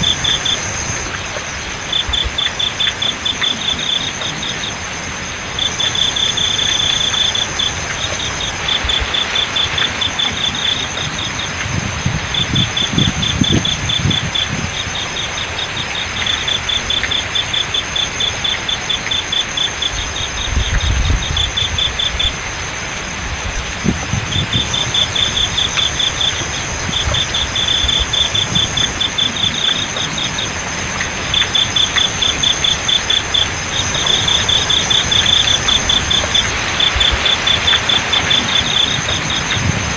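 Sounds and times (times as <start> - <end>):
crickets chirping: 0.0 - 39.9
running water hiss: 0.0 - 39.9.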